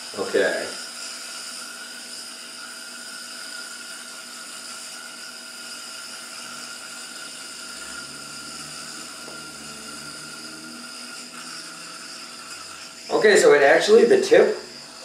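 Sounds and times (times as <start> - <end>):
spinning top whirring: 0.0 - 15.0.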